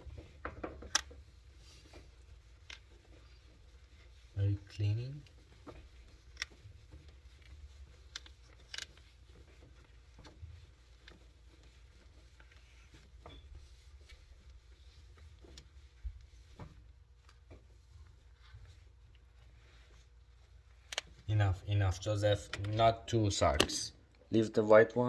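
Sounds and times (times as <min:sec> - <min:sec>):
soft rustling: 0:00.0 - 0:24.8.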